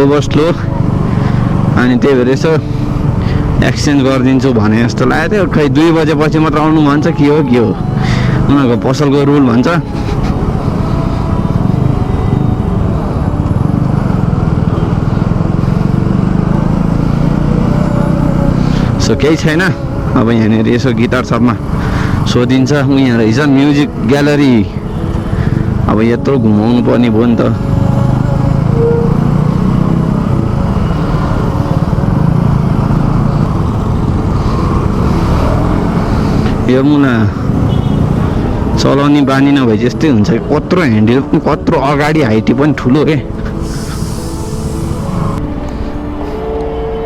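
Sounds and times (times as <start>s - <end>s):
motorcycle engine running steadily: 0.0s - 47.0s.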